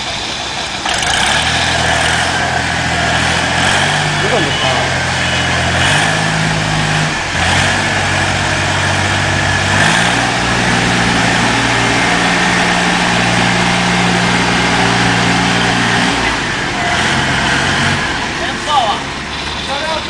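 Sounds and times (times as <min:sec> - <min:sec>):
road roller engine running: 0:00.0 - 0:20.0.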